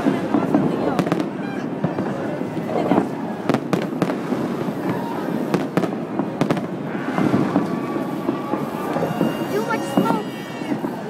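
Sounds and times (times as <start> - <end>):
fireworks rumbling and crackling: 0.0 - 11.0
fireworks sharp bangs: 0.0 - 11.0.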